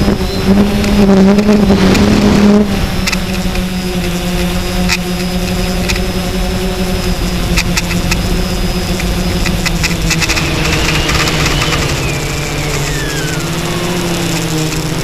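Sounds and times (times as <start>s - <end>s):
drone propellers humming: 0.0s - 15.0s
wind rumble on microphone: 0.0s - 15.0s
sharp ticks: 0.5s - 2.1s, 3.0s - 6.2s, 7.0s - 15.0s.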